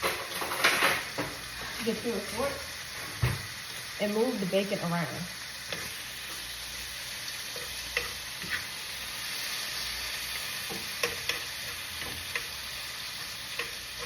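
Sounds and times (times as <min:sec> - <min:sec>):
bacon sizzling in a pan: 0:00.0 - 0:14.0.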